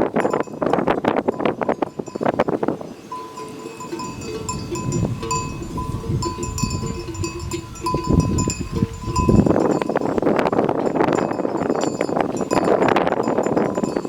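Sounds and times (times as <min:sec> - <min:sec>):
animal bells clanking: 0:00.0 - 0:14.0
rough rustling noise: 0:00.0 - 0:14.0.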